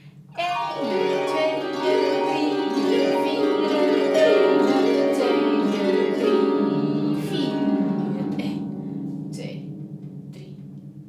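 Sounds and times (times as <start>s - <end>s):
harp plucked runs: 0.0s - 11.0s.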